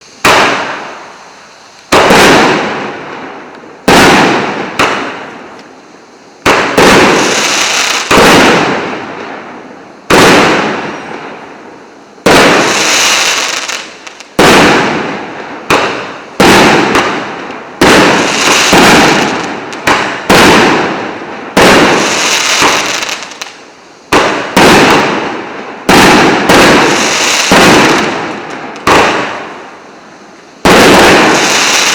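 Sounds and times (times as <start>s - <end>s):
crackling hiss of fireworks: 0.0s - 31.9s
fireworks bangs: 0.0s - 31.9s.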